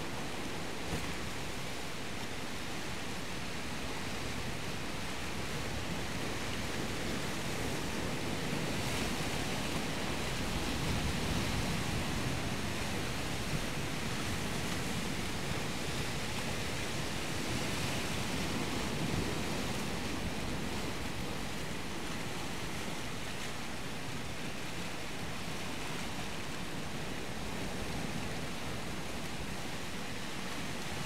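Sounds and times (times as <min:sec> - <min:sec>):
surf rushing: 0:00.0 - 0:31.0.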